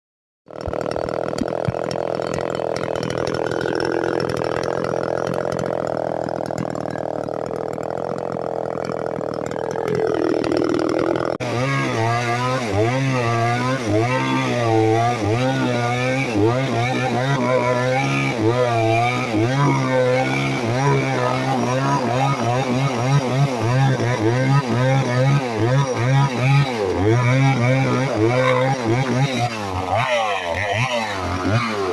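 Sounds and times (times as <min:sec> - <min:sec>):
chainsaw engine revving: 0:00.5 - 0:31.9.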